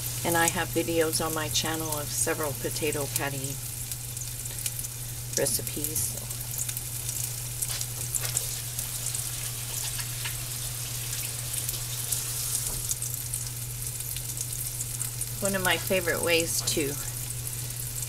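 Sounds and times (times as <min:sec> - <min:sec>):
food sizzling in hot oil: 0:00.0 - 0:18.0
low steady hum: 0:00.0 - 0:18.0.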